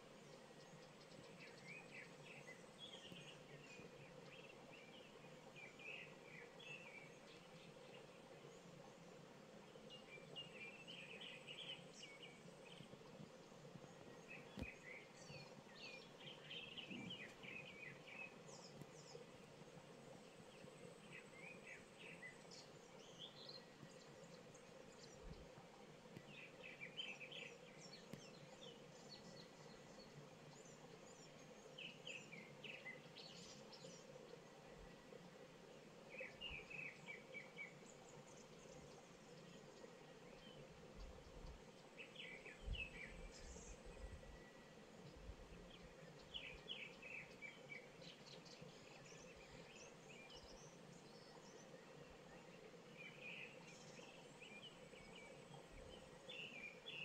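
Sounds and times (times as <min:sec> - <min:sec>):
faint birds chirping: 0:00.0 - 0:57.0.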